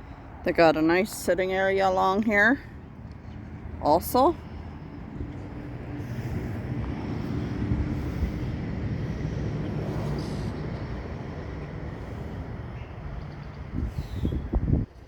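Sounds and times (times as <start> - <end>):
passing motor vehicle rumble: 0.0 - 15.0.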